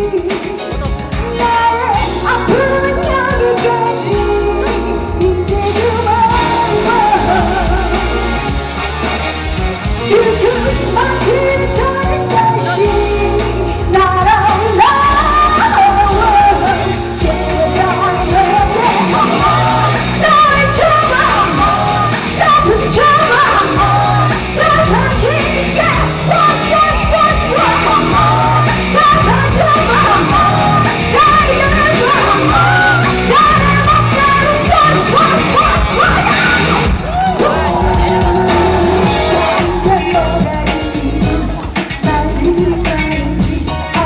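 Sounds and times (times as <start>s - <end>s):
woman singing: 0.0s - 8.4s, 10.0s - 44.0s
pop-rock band playing: 0.0s - 44.0s.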